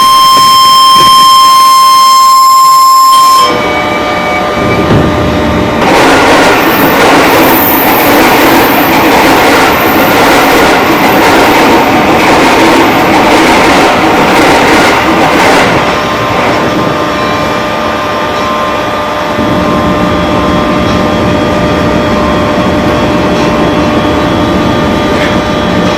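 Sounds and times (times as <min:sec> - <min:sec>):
electric train running on rails: 0:00.0 - 0:25.9.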